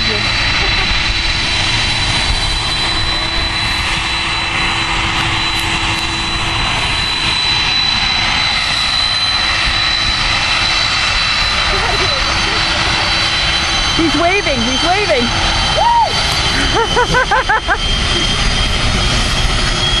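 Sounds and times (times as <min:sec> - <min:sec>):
jet engines running with whine: 0:00.0 - 0:20.0.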